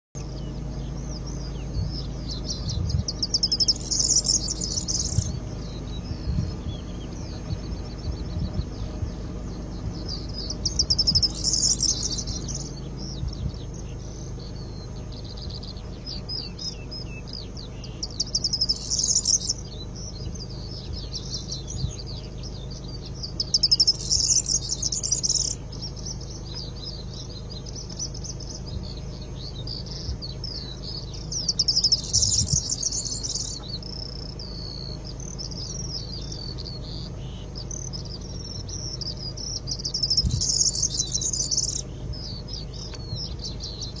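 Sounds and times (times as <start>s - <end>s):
bird song phrases: 0.2s - 44.0s
faint high twittering: 0.2s - 44.0s.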